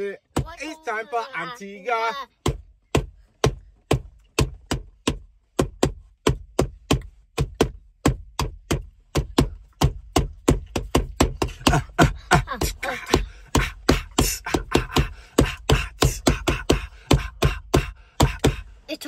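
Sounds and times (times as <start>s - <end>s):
hand drumming on padded armrest: 2.4s - 18.6s.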